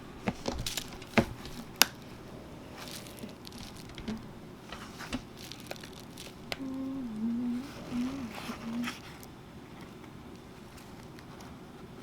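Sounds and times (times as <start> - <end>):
handling noise: 0.0 - 12.0.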